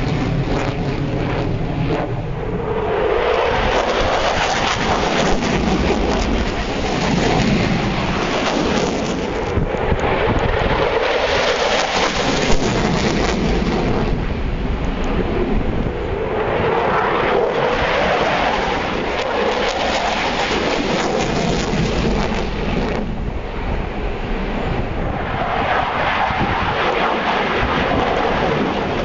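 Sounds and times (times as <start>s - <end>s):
jet engine roar: 0.0s - 29.0s.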